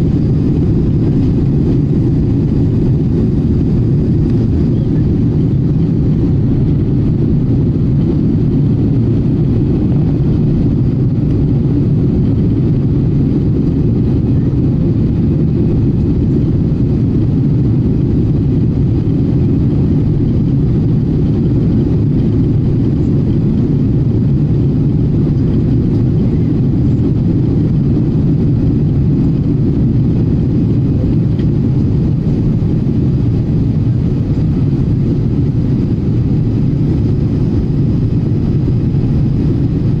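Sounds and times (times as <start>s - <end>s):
airliner cabin engine noise: 0.0s - 40.0s.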